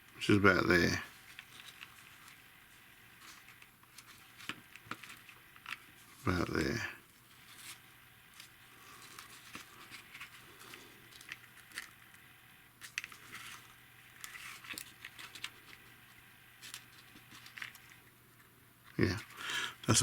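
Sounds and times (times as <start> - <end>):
paper rustling: 0.8 - 6.5, 7.1 - 12.2, 12.8 - 20.0.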